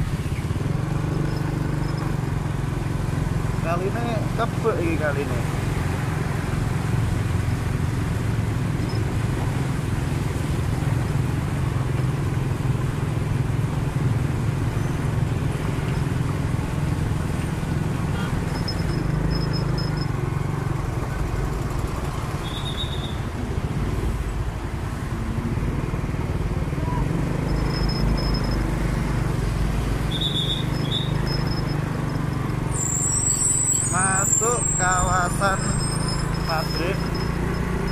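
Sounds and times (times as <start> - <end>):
motorcycle engine rumble: 0.0 - 37.9
road and wind noise: 0.0 - 37.9.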